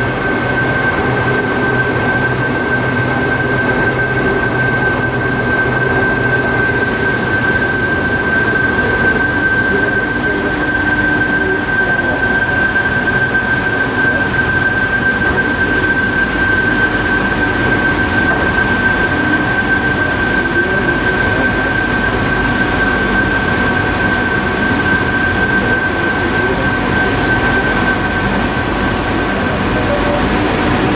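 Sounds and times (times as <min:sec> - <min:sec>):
high machine whine: 0:00.0 - 0:30.9
lathe mechanical rumble: 0:00.0 - 0:30.9.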